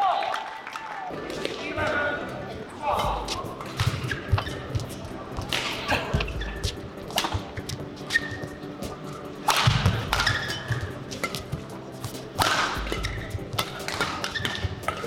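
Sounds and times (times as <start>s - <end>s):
shoes squeaking on court: 1.6s - 15.0s
rackets hitting shuttlecock: 2.9s - 15.0s.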